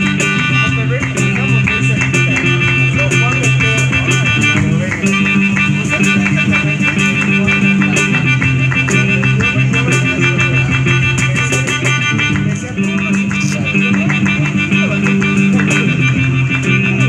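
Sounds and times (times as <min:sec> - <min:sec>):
cajon beat: 0:00.0 - 0:17.0
electric guitar: 0:00.0 - 0:17.0
melodica long notes: 0:00.0 - 0:17.0.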